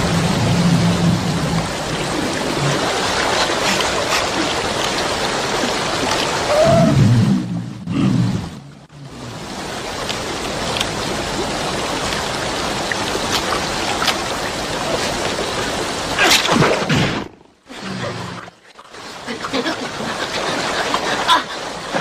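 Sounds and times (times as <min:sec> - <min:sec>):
river water rushing: 0:00.0 - 0:07.1, 0:09.0 - 0:16.7, 0:17.8 - 0:22.0.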